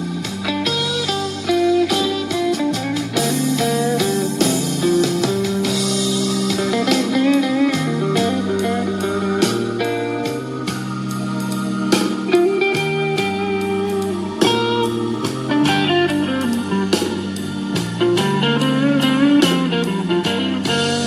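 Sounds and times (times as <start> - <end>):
blues music through small speaker: 0.0 - 21.0.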